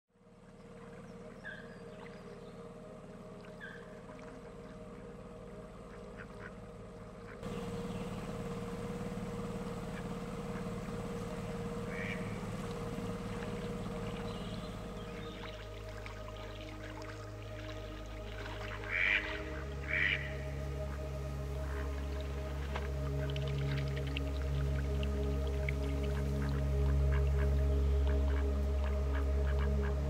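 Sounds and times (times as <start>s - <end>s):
low hum: 0.1s - 30.0s
ducks calling: 3.4s - 30.0s.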